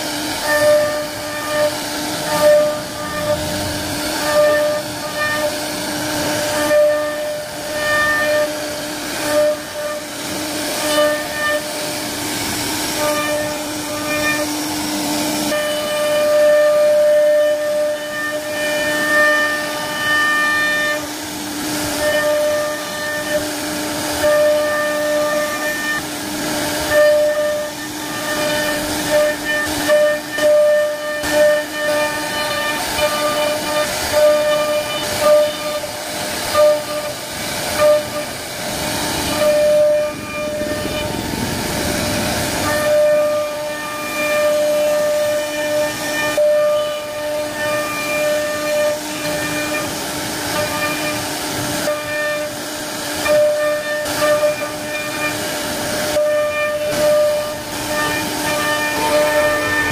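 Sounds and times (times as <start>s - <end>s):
bit cutting wood: 0.0s - 59.9s
router spindle whining: 0.0s - 59.9s.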